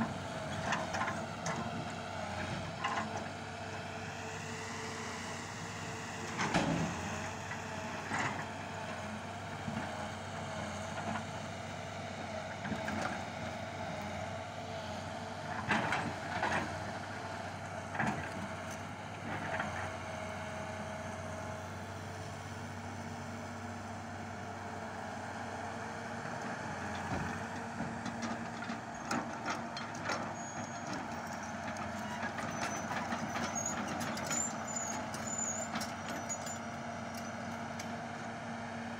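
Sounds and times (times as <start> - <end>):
diesel engine drone: 0.0 - 38.9.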